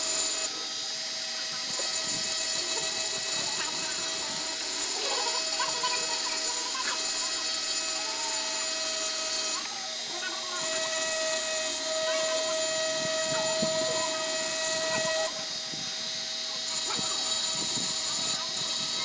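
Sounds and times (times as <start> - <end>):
engraving pen whining on glass: 0.0 - 19.0.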